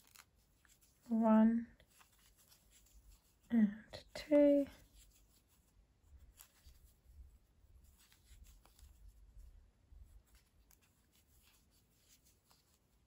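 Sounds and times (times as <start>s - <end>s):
yarn rustling: 0.0s - 13.0s.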